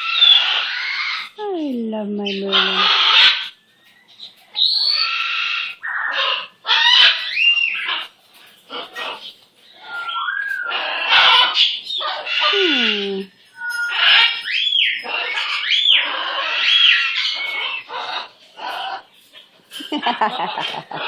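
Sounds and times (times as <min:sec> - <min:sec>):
parrot squawking and chattering: 0:00.0 - 0:01.4, 0:02.2 - 0:03.5, 0:04.2 - 0:21.0.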